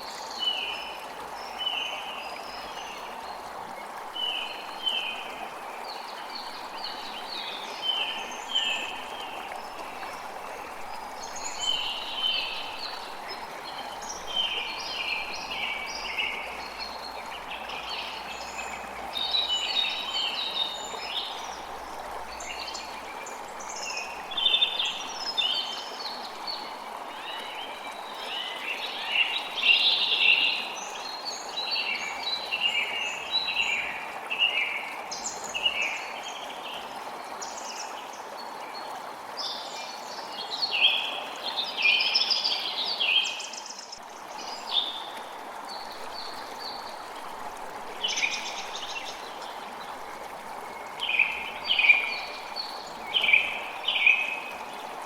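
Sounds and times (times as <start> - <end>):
creek flowing: 0.0 - 55.0.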